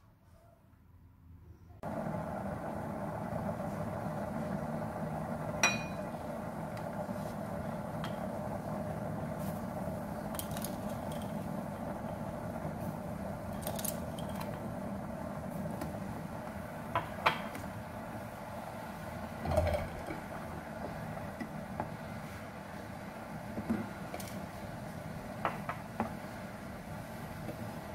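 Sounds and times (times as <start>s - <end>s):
cooktop fan hum: 1.2s - 27.9s
beans boiling and bubbling: 1.8s - 27.9s.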